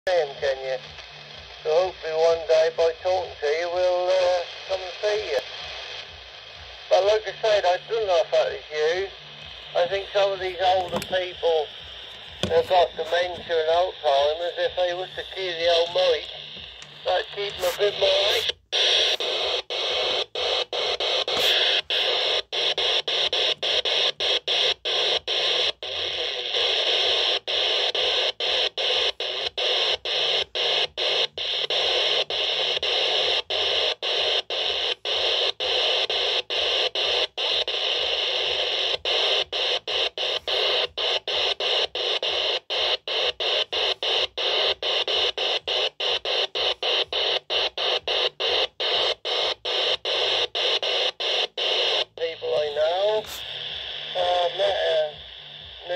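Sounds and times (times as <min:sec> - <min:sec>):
radio static hiss: 0:00.1 - 0:55.9.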